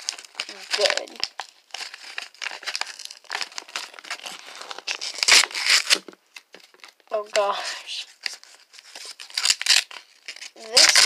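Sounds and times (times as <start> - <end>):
paper wrapping crinkling and tearing: 0.0 - 11.0.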